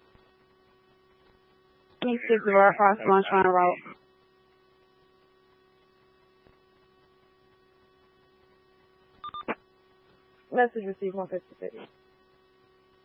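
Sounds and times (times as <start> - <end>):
radio static hum and hiss: 0.0 - 13.0.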